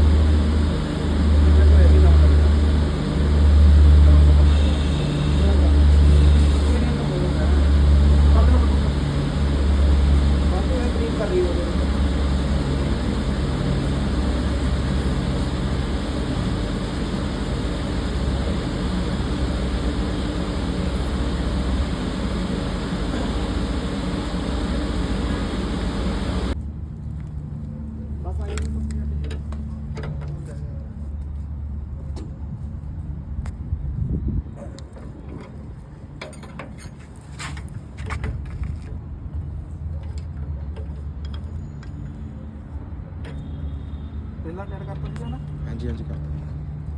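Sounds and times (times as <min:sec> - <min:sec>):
machine rumbling and humming: 0:00.0 - 0:46.9.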